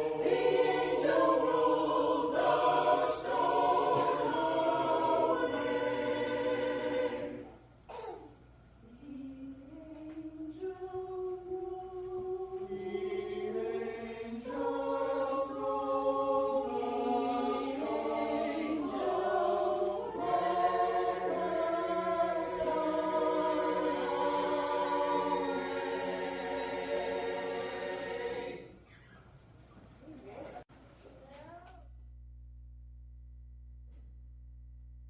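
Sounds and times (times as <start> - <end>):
choir singing held notes: 0.0 - 8.1, 8.8 - 29.0.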